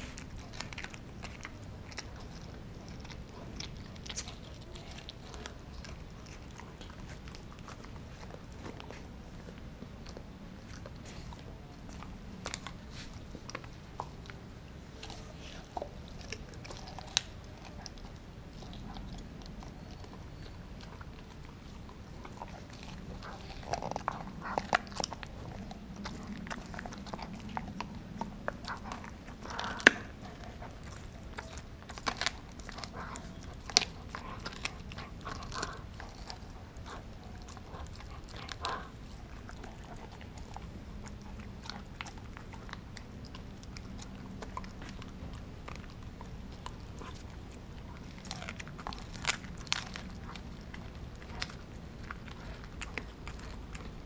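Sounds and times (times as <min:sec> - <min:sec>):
dog chewing frozen meat: 0:00.0 - 0:54.0.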